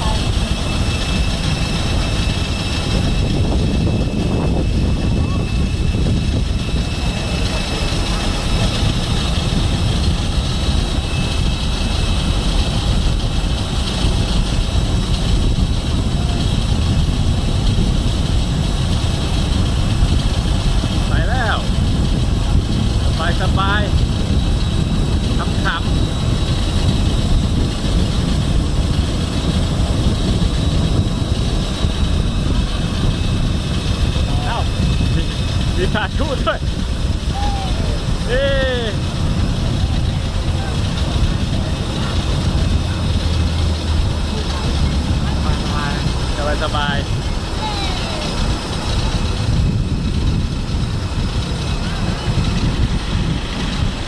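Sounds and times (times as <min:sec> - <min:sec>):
high-pitched whine: 0:00.0 - 0:54.0
tractor engine rumble: 0:00.0 - 0:54.0.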